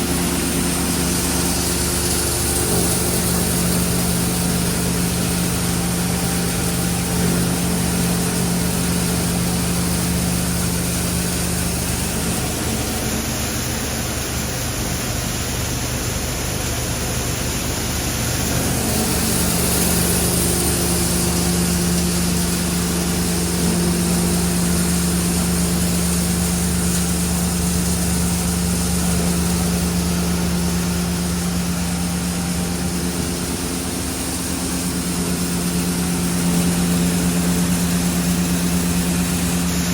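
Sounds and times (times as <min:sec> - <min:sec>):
machine hum with tones: 0:00.0 - 0:39.9.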